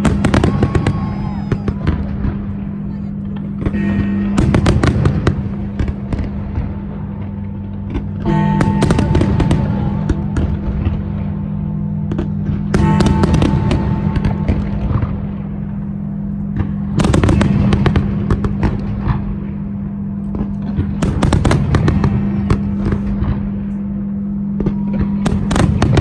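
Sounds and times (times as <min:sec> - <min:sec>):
fireworks bursting and crackling: 0:00.0 - 0:19.6, 0:20.2 - 0:23.8, 0:24.6 - 0:26.0.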